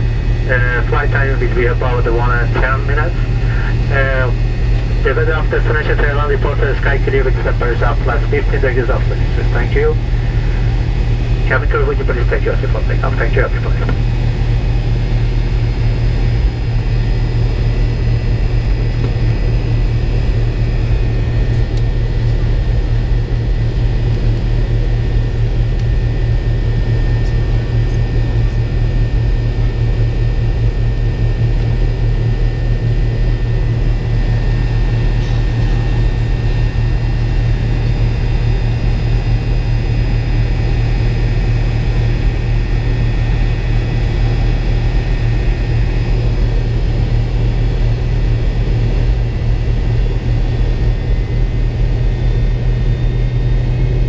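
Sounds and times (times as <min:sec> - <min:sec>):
high whining engine tones: 0:00.0 - 0:54.0
jet engine low hum: 0:00.0 - 0:54.0.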